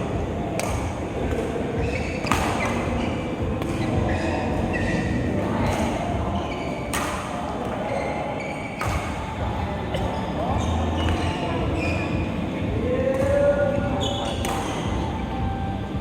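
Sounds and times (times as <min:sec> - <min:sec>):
murmur of busy hall: 0:00.0 - 0:16.0.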